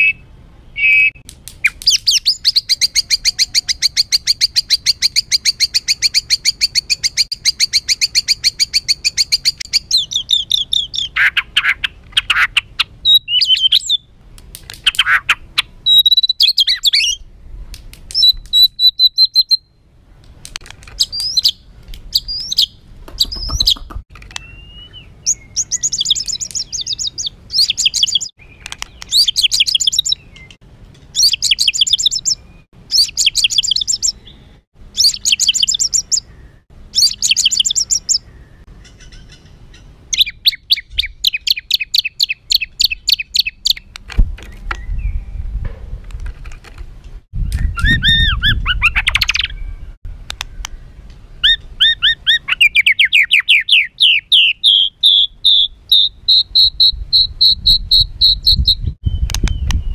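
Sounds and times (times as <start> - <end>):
songbird singing harsh song: 0.0 - 17.3, 18.1 - 19.9, 20.9 - 45.6, 47.4 - 59.9.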